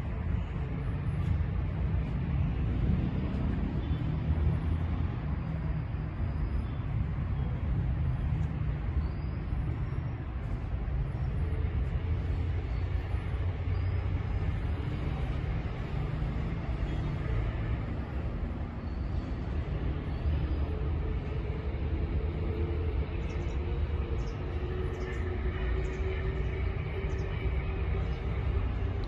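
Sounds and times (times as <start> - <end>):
low traffic rumble: 0.0 - 29.0.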